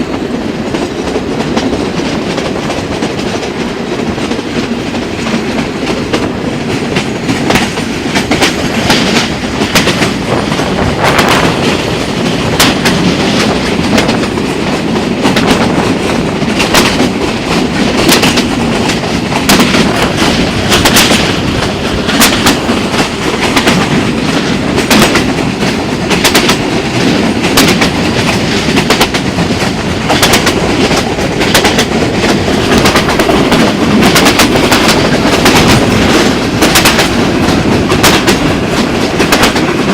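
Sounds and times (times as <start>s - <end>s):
train wheels rumbling on rails: 0.0s - 39.9s
wheels clacking over rail joints: 0.1s - 39.9s.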